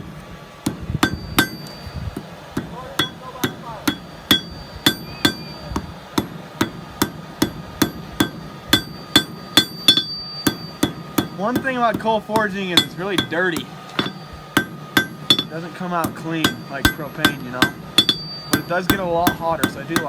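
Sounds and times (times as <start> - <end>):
hammer ringing on anvil: 0.7 - 20.0.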